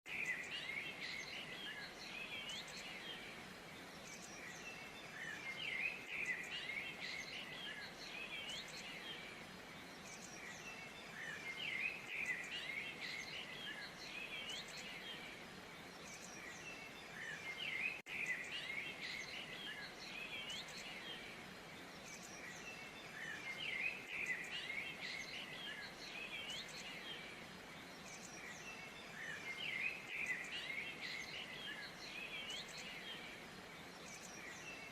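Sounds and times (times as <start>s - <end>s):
songbirds chirping: 0.0s - 34.9s
faint background hiss: 0.1s - 34.9s.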